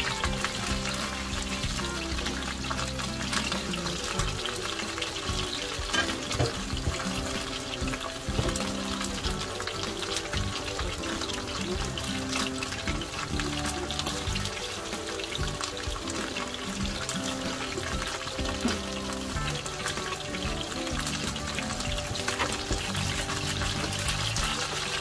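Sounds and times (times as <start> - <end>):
background music: 0.0 - 25.0
food frying in hot oil: 0.0 - 25.0.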